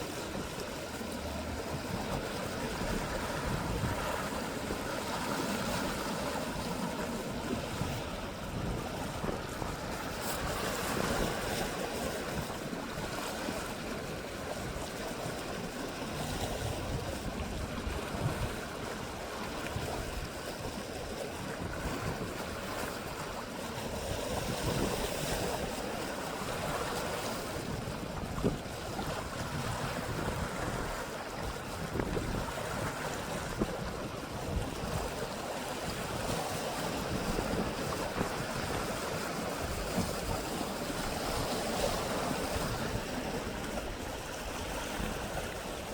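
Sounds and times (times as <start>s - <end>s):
small sea waves: 0.0s - 45.9s
wind rumbling on microphone: 0.0s - 45.9s.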